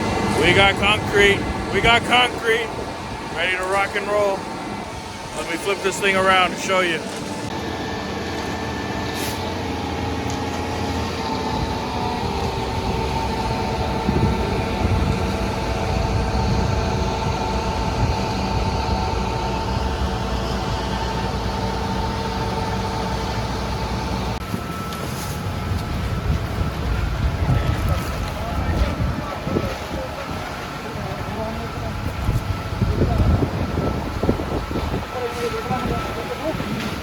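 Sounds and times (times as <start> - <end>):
concrete pump diesel engine: 0.0 - 37.0.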